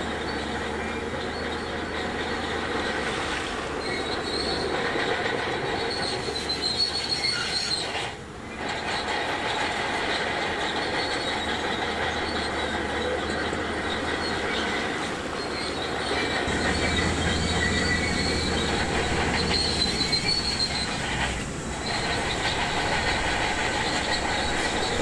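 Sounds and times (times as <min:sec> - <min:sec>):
bulldozer engine running: 0:00.0 - 0:07.0, 0:08.2 - 0:25.0
steel tracks squealing: 0:00.0 - 0:25.0.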